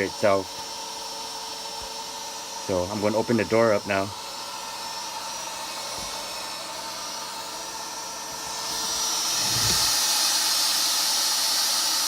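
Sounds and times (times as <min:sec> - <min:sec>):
router high whine: 0:00.0 - 0:12.0.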